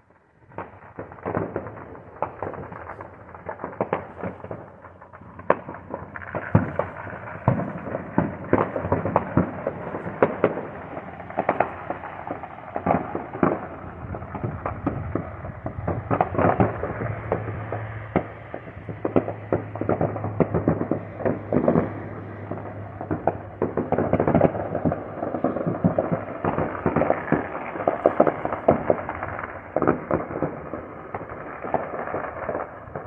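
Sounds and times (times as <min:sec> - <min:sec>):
firecrackers crackling: 0:00.0 - 0:33.0
fireworks bangs: 0:00.0 - 0:33.0.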